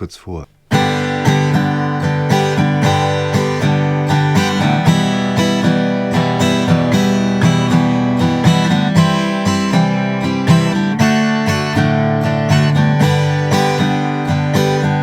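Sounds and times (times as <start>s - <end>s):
acoustic guitar strumming: 0.6s - 15.0s.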